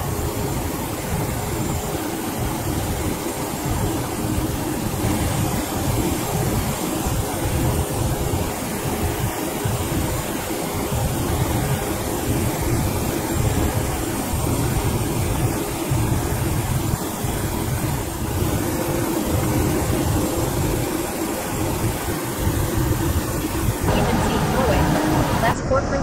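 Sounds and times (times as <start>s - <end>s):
helicopter engine and rotor drone: 0.0s - 25.6s
faint steady hum: 0.0s - 26.0s
rushing wind: 0.0s - 26.0s.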